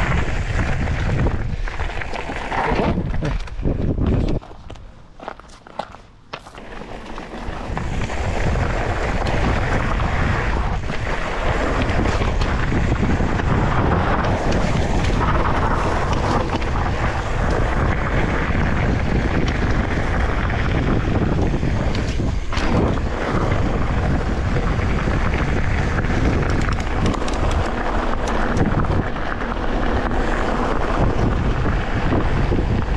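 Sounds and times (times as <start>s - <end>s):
wind buffeting microphone: 0.0s - 4.8s, 7.1s - 32.9s.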